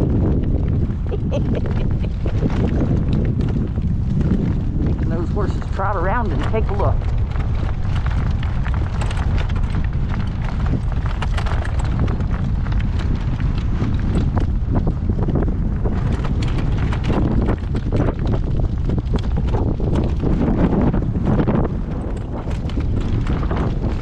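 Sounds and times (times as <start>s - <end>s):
horse hooves clip-clopping: 0.0s - 24.0s
wind buffeting microphone: 0.0s - 24.0s.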